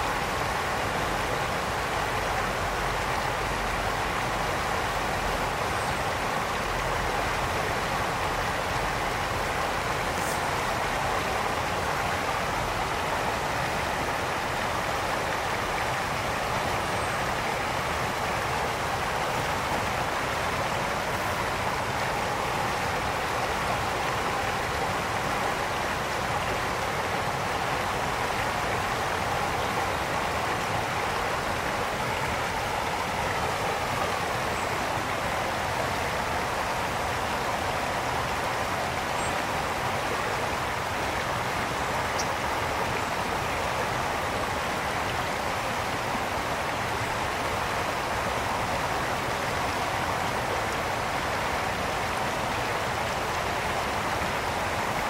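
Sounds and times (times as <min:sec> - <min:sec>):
brook water rushing over stones: 0:00.0 - 0:55.0.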